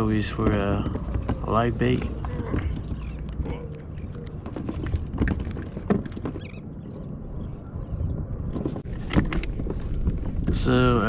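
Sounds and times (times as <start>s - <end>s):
low rumbling wind: 0.0s - 11.0s
water noise: 0.0s - 11.0s.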